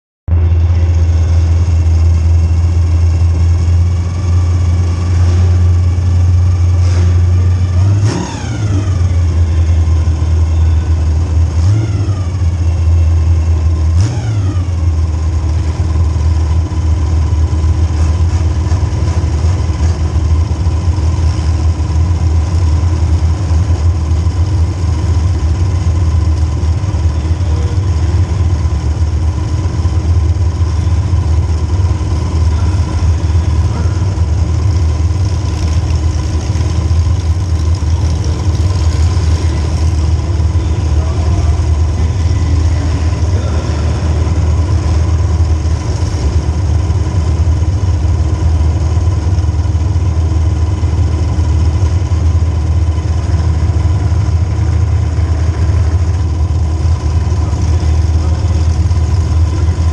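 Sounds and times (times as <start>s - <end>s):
car engine running loud: 0.3s - 59.9s.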